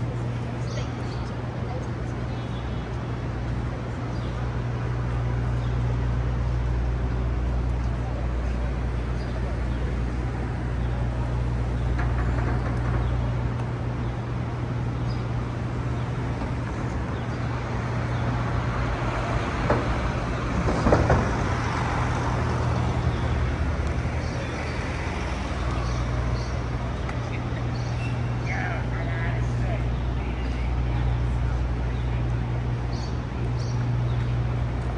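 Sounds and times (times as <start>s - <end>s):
engine hum: 0.0s - 34.9s
road noise: 0.0s - 34.9s.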